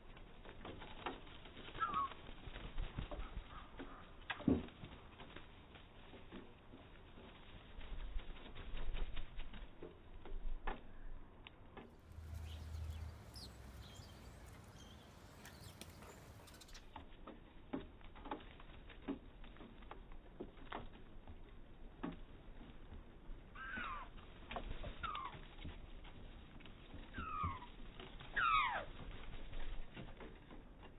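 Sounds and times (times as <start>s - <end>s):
bird wings flapping: 0.0s - 30.9s.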